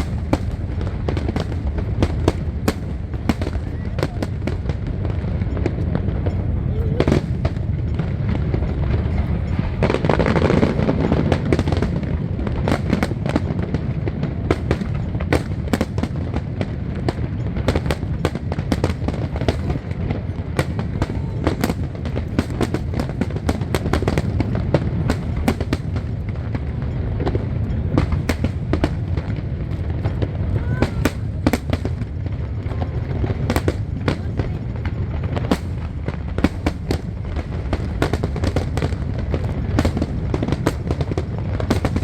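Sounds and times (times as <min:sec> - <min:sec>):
fireworks crackling pops: 0:00.0 - 0:42.0
low rumble of firework bursts: 0:00.0 - 0:42.0.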